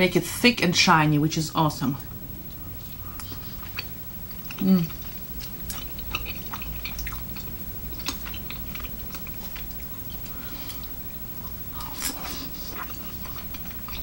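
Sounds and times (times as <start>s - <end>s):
person chewing rice cakes: 2.0s - 14.0s.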